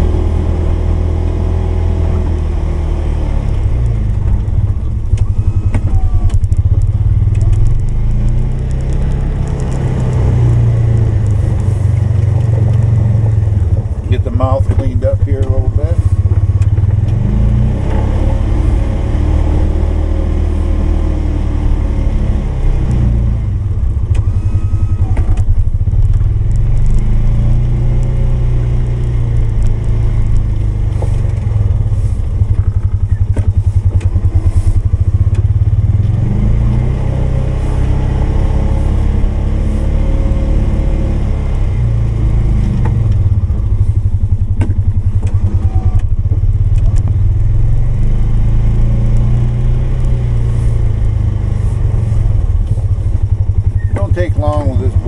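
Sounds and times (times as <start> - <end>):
utility vehicle engine under load: 0.0 - 55.0.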